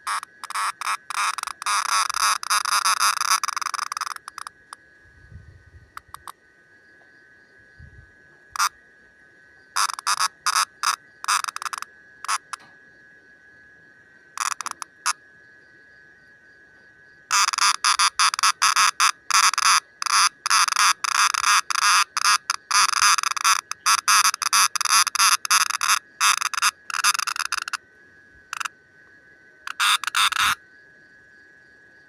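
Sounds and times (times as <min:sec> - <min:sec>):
cicada buzzing: 0:00.0 - 0:32.0.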